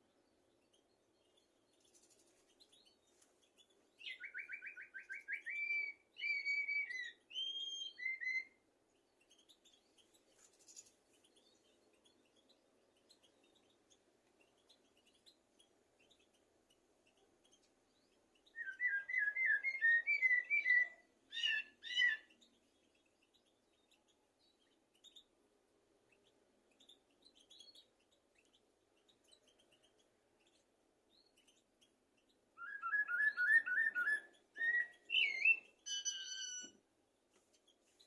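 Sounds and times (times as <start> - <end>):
blackbird singing: 0.0 - 25.3, 26.0 - 36.8.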